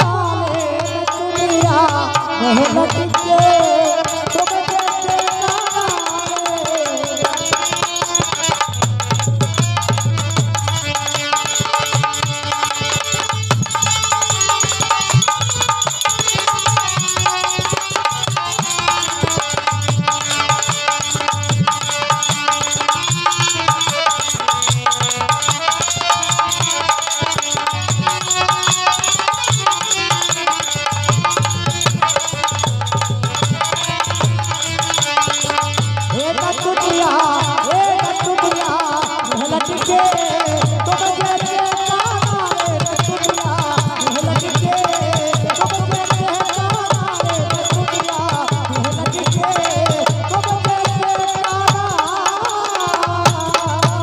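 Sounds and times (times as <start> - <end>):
fast hand-drum rhythm: 0.0 - 54.0.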